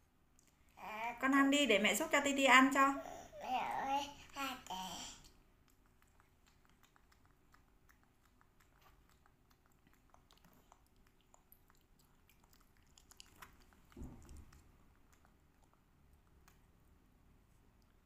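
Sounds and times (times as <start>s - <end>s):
soft chewing: 0.0s - 0.8s, 4.1s - 18.0s.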